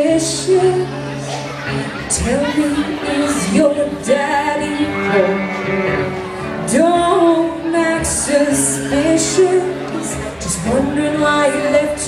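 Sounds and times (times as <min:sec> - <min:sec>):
acoustic guitar: 0:00.0 - 0:12.0
person singing: 0:00.0 - 0:12.0.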